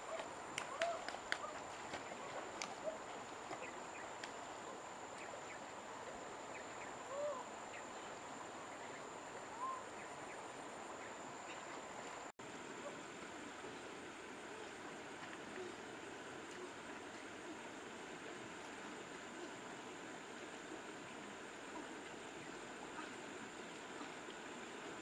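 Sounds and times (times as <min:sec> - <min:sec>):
shallow river over stones: 0:00.0 - 0:25.0.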